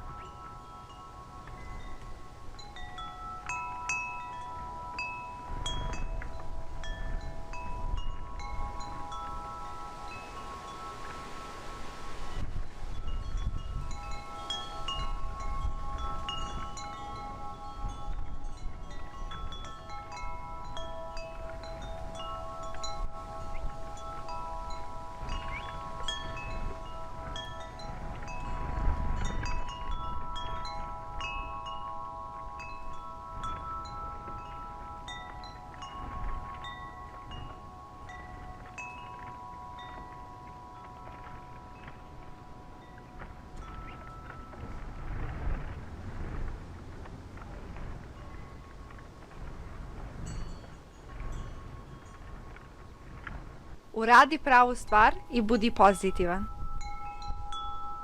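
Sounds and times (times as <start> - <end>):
metal wind chimes ringing: 0.0 - 58.0
wind rumble on microphone: 0.0 - 58.0.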